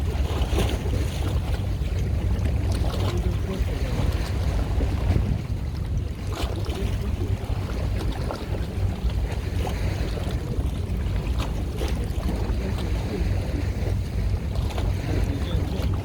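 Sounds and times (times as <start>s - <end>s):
boat engine rumble: 0.0s - 16.0s
water splashing: 0.0s - 16.0s
wind buffeting microphone: 0.0s - 16.0s.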